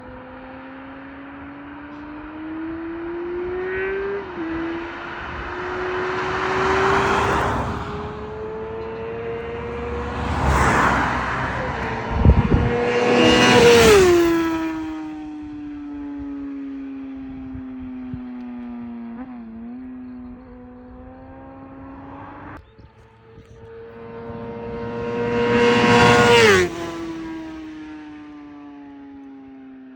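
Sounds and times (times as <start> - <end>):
motorcycle engine accelerating: 0.0 - 29.9.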